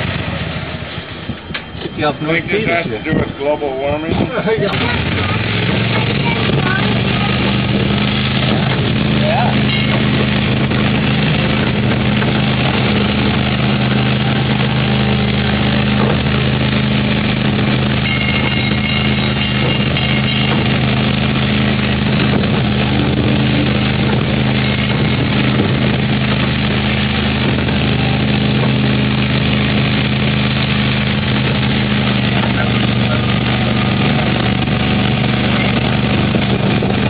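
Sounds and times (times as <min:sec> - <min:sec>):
train rumbling along: 0:00.0 - 0:37.0
small train engine running: 0:04.7 - 0:37.0.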